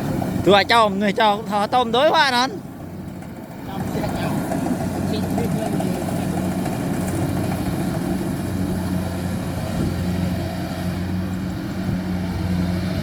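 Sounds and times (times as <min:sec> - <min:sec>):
diesel engine droning: 0:00.0 - 0:13.0
harvester working noise: 0:00.0 - 0:13.0.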